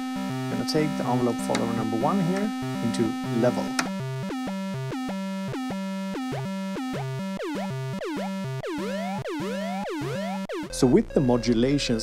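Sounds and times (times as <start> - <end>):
stuttering mixer feedback tones: 0.0 - 12.0.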